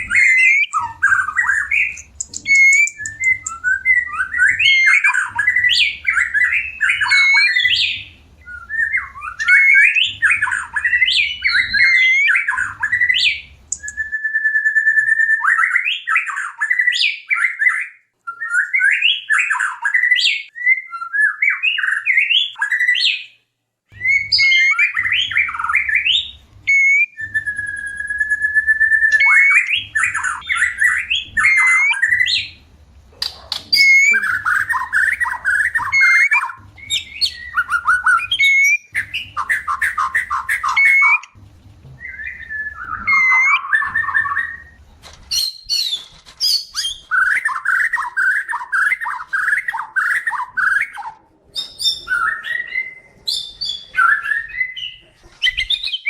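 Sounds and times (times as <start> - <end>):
bird singing whistles and chatter: 0.0 - 23.3, 24.0 - 32.6, 33.2 - 41.4, 42.0 - 56.0
long steady bird whistle: 0.0 - 32.6, 33.7 - 41.4, 42.0 - 51.0.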